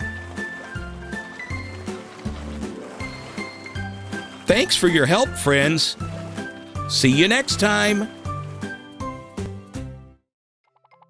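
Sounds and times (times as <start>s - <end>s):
gentle cartoon music: 0.0s - 11.0s.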